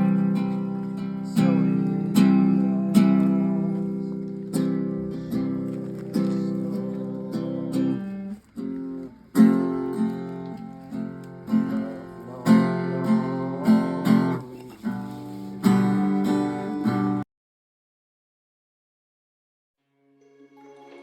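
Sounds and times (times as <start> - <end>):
strummed acoustic guitar chords: 0.0 - 17.2.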